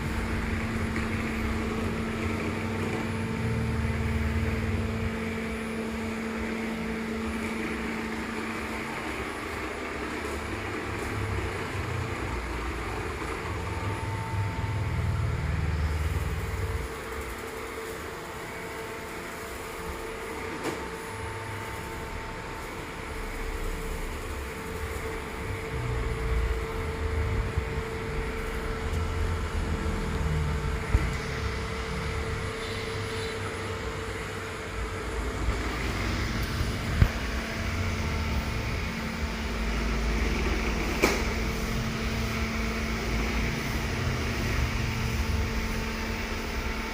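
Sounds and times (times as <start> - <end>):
robot vacuum motor hum: 0.0 - 46.9.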